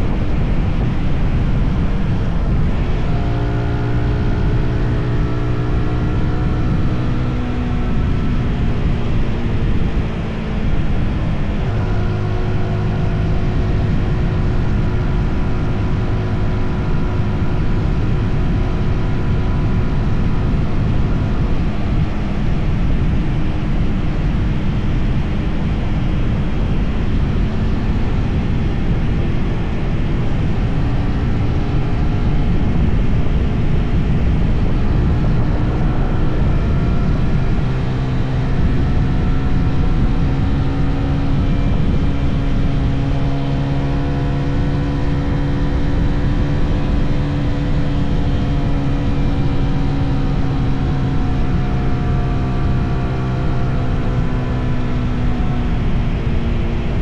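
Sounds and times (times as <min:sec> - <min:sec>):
heavy wind rush: 0:00.0 - 0:57.0
motorcycle engine running: 0:00.0 - 0:57.0.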